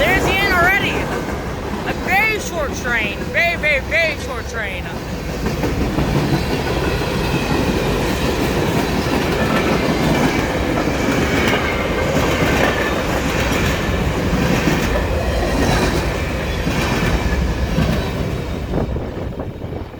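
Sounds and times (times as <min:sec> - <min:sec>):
train cars rumbling and clattering: 0:00.0 - 0:19.9.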